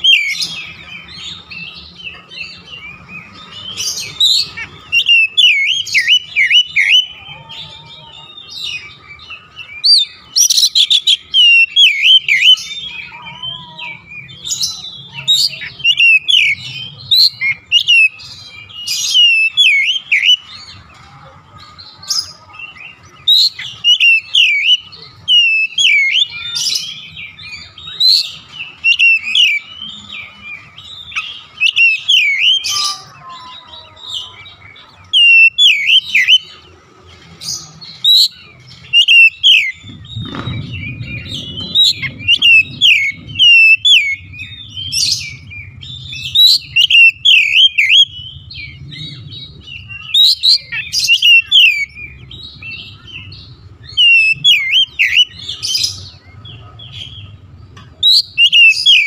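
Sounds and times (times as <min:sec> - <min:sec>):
bird singing whistled notes: 0:00.0 - 0:07.5, 0:08.3 - 0:20.7, 0:22.7 - 0:33.0, 0:34.3 - 0:36.6, 0:37.5 - 0:57.4, 0:58.0 - 0:59.0.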